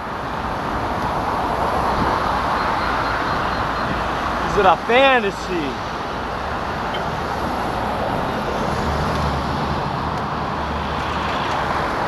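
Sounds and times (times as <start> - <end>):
road traffic noise: 0.0 - 12.0
vehicle engine humming nearby: 0.0 - 12.0.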